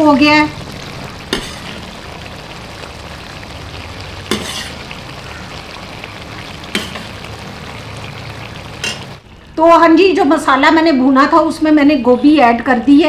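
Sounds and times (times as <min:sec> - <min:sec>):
curry sizzling in a pot: 0:00.0 - 0:12.7.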